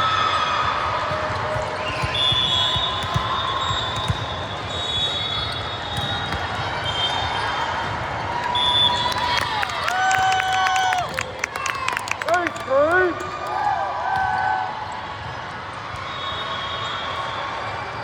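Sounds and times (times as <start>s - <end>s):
volleyballs struck and bouncing: 0.7s - 16.1s.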